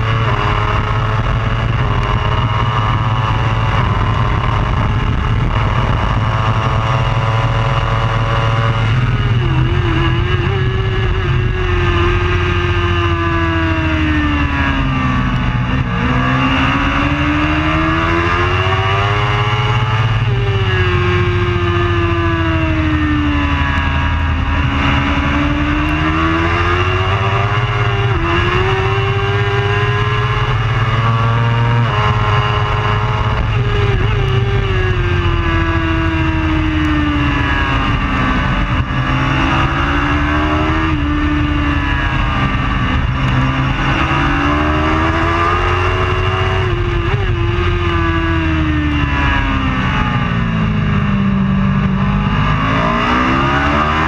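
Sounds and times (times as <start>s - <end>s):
gear changes: 0.0s - 54.0s
motorcycle engine accelerating: 0.0s - 54.0s.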